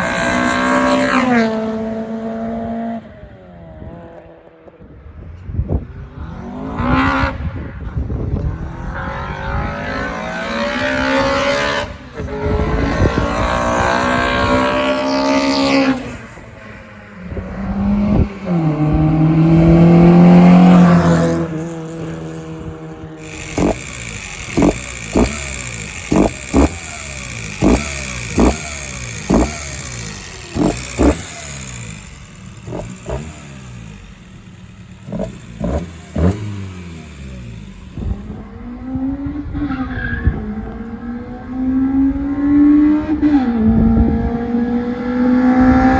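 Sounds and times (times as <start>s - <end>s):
car engine revving hard: 0.0s - 3.1s, 6.2s - 45.9s.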